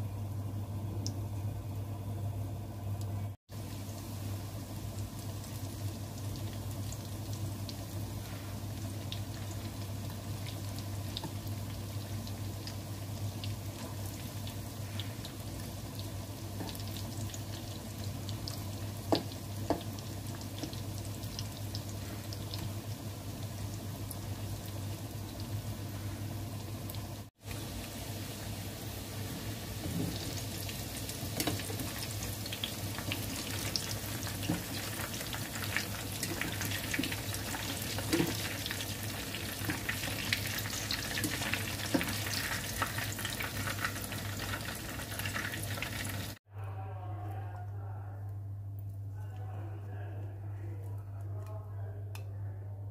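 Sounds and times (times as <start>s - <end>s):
food deep-frying in oil: 3.0s - 46.4s.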